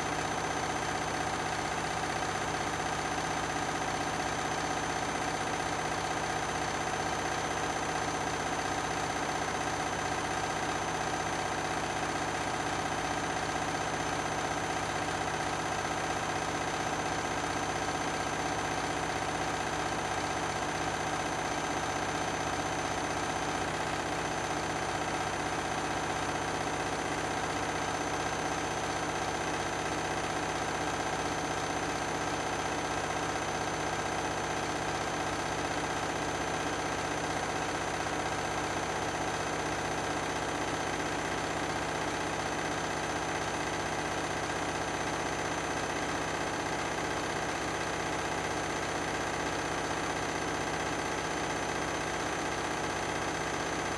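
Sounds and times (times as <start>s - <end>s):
washing machine spinning: 0.0s - 53.9s.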